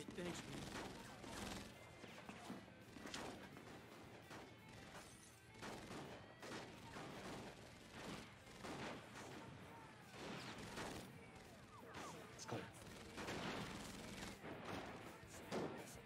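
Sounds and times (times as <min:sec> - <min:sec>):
pistol shots: 0:00.4 - 0:16.0.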